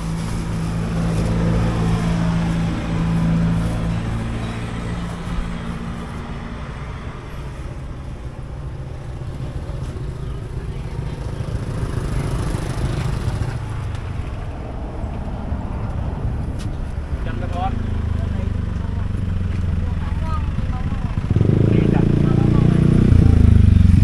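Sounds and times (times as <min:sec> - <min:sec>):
road traffic rumble: 0:00.0 - 0:24.0
vehicle engine humming: 0:00.0 - 0:24.0.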